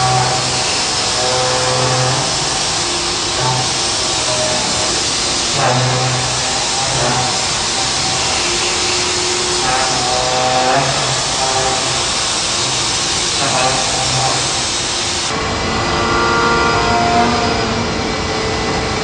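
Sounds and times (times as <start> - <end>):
machine milling metal: 0.0 - 19.0.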